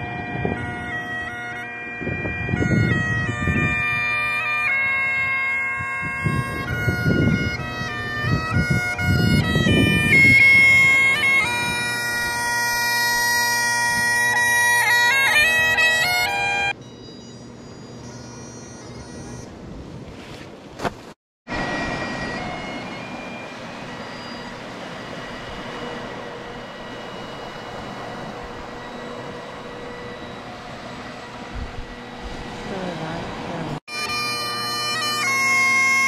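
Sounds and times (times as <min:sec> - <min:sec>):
bagpipes playing: 0:00.0 - 0:19.6, 0:21.5 - 0:36.0.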